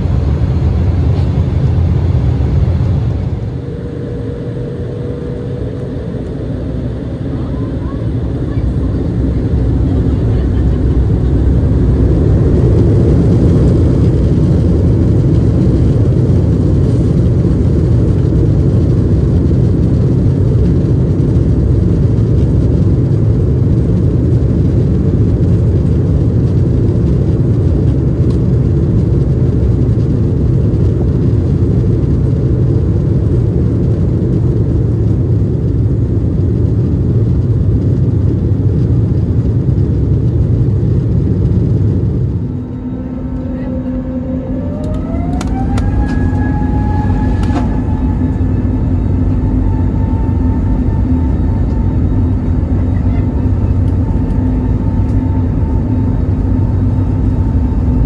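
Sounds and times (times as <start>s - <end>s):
aircraft engines rumbling: 0.0s - 58.0s.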